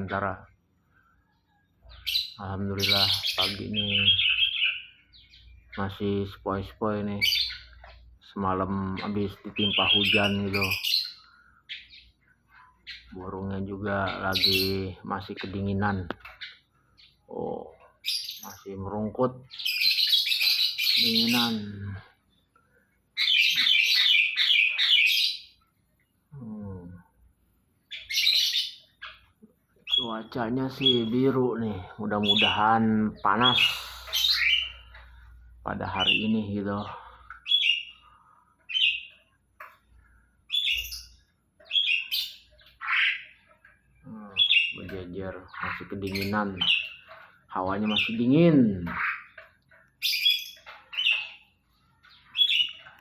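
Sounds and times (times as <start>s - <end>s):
small songbirds chirping: 0.0s - 53.0s.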